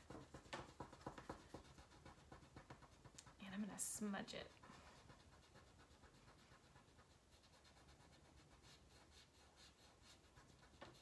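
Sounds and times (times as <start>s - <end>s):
fingertip rubbing paper: 0.0s - 3.4s, 4.5s - 11.0s.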